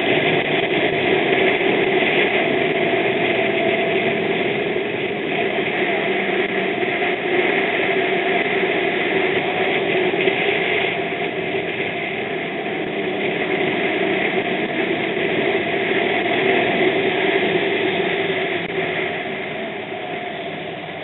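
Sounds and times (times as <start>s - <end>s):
motorbike engine drone: 0.0s - 21.0s
wind rushing over microphone: 0.0s - 21.0s.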